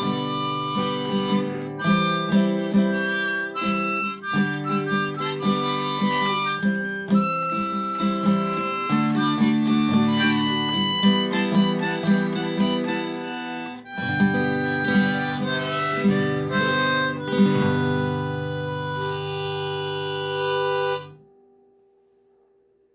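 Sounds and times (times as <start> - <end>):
harmonica melody: 0.0 - 21.2
rhythmic guitar: 0.0 - 21.3.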